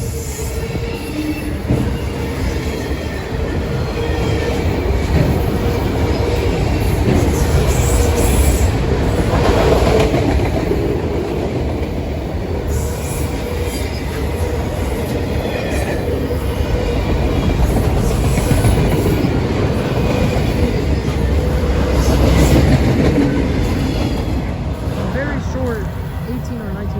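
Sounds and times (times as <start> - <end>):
freight train wheels on rail: 0.0 - 26.9.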